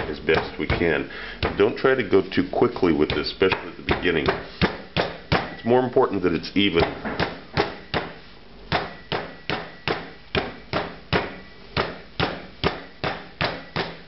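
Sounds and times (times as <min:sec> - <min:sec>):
meat pounder thudding on board: 0:00.0 - 0:01.8, 0:02.9 - 0:05.6, 0:06.8 - 0:14.0.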